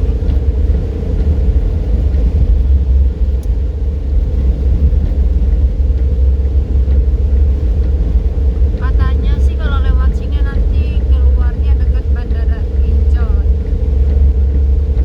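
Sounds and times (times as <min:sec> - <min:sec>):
road rumble: 0:00.0 - 0:15.0
steady hum: 0:00.0 - 0:15.0.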